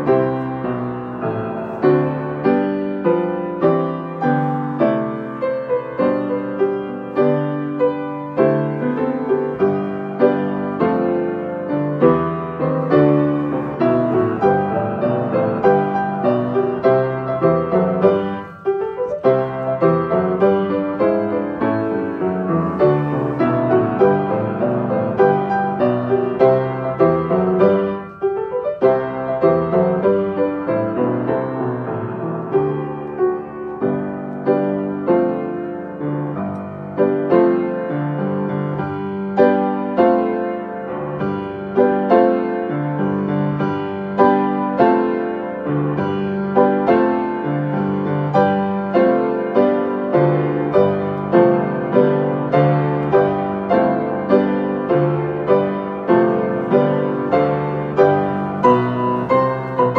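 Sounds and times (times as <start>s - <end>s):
upright piano playing: 0.0s - 59.9s.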